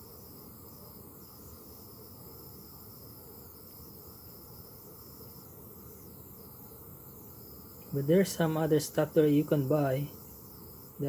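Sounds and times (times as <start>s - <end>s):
humidifier hiss: 0.0s - 11.0s.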